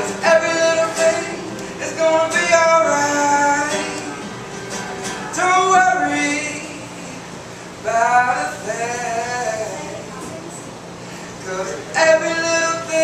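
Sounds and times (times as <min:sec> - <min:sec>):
man singing reggae song: 0:00.0 - 0:04.4, 0:05.1 - 0:10.0, 0:11.4 - 0:13.0.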